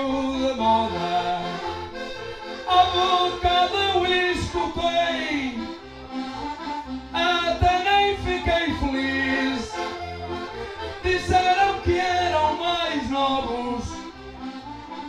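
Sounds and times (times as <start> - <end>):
button accordions playing: 0.0 - 15.0.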